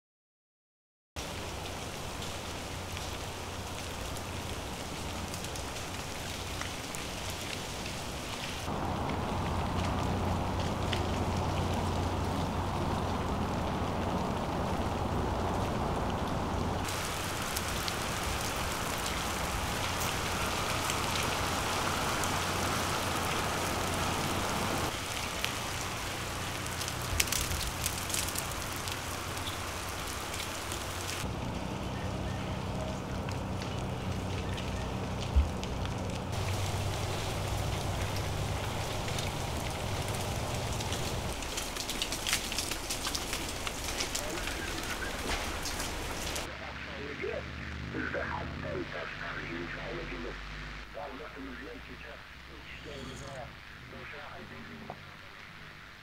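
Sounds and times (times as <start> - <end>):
freezing rain pattering: 1.2 - 56.0.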